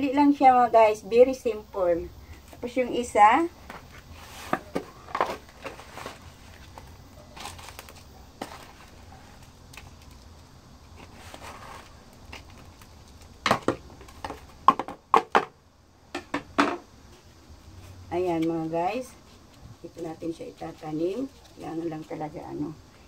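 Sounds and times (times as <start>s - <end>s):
soft rustling of potting soil: 0.0s - 14.7s, 17.0s - 23.0s.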